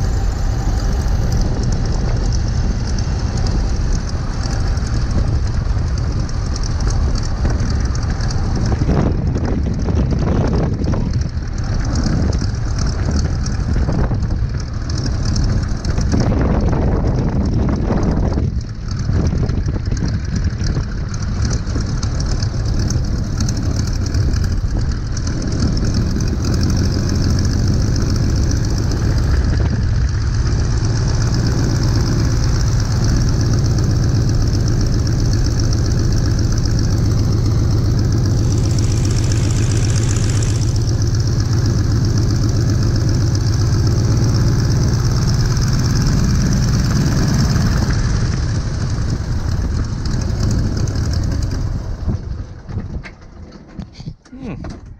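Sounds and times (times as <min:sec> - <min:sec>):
aircraft engine drone: 0:00.0 - 0:53.4.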